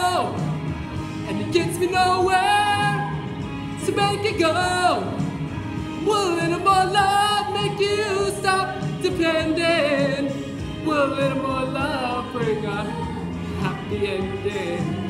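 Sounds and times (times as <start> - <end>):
song with sung lead vocal: 0.0 - 15.0.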